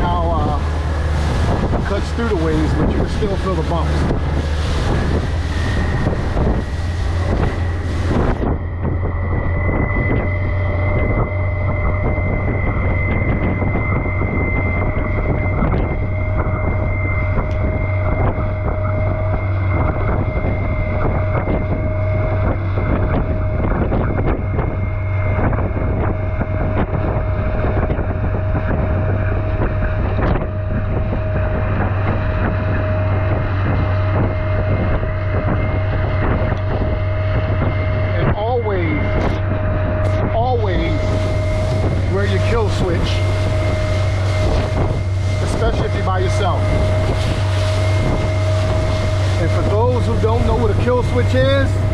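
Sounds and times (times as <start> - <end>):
hull slapping through waves: 0.0 - 51.9
motorboat engine running: 0.0 - 51.9
wind buffeting microphone: 0.0 - 51.9.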